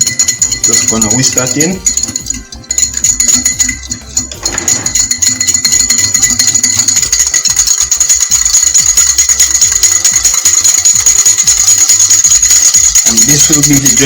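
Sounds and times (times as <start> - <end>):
background music: 0.0 - 14.0
wire whisk clinking against bowl: 0.0 - 14.0.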